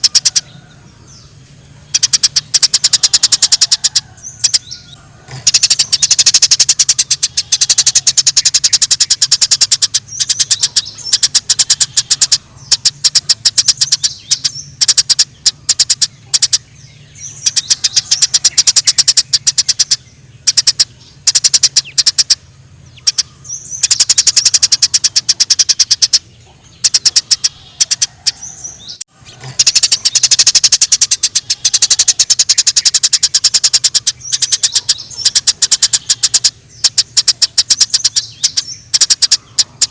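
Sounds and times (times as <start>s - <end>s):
sparrows chirping agitatedly: 0.0s - 39.9s.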